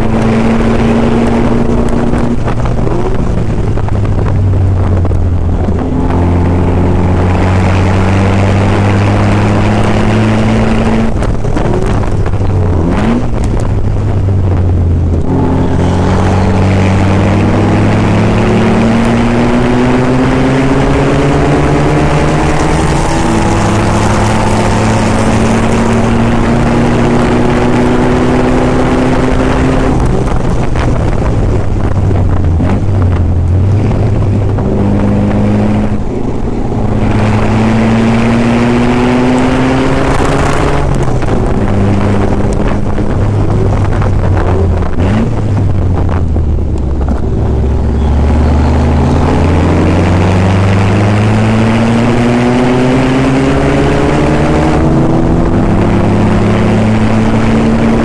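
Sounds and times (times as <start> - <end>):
sports car engine accelerating: 0.0 - 58.0.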